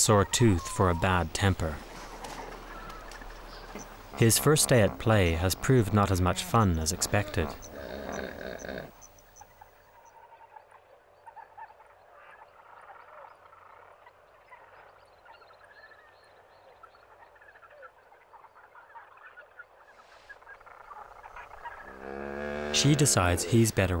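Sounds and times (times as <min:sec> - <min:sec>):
chorus of small animal calls: 0:00.1 - 0:09.5, 0:10.1 - 0:24.0.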